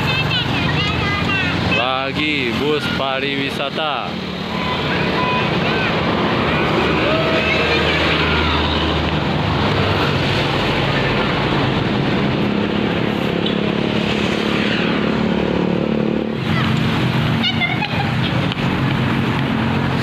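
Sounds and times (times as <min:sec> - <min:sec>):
bus engine hum: 0:00.0 - 0:20.0
street traffic passing: 0:00.0 - 0:20.0.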